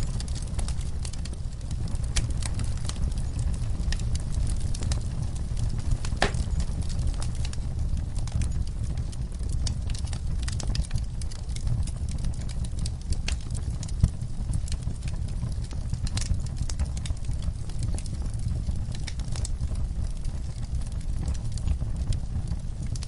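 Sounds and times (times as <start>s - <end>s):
fire crackling and popping: 0.0s - 23.0s
low steady rumble: 0.0s - 23.0s.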